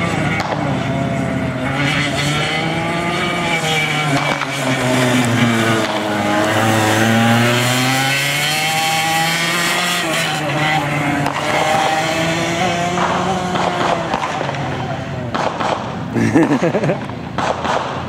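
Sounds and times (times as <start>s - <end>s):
go-kart engine revving: 0.0s - 17.8s.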